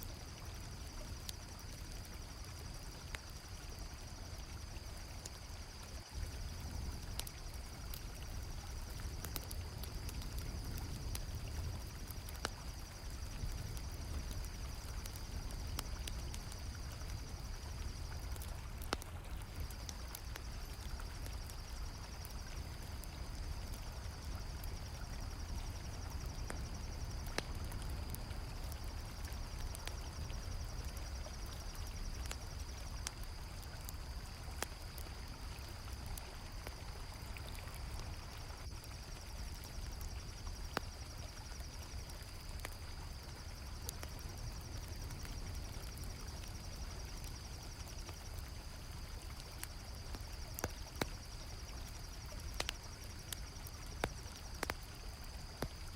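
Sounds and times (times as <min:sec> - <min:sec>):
campfire crackling: 0:00.0 - 0:55.9
crickets chirping: 0:00.0 - 0:55.9.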